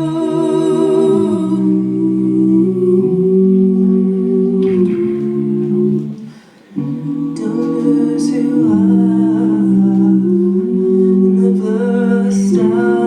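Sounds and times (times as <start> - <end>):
vocal group singing harmony: 0.0 - 13.0.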